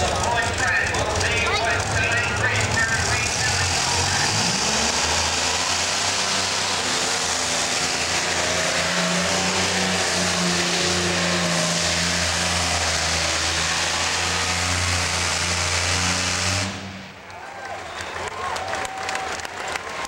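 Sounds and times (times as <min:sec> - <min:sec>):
tractor engine at high revs: 0:00.0 - 0:17.3.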